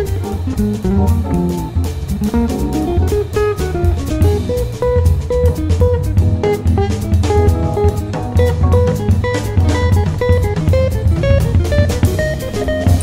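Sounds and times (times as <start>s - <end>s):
drum kit beat: 0.0s - 13.0s
plucked melody: 0.0s - 13.0s.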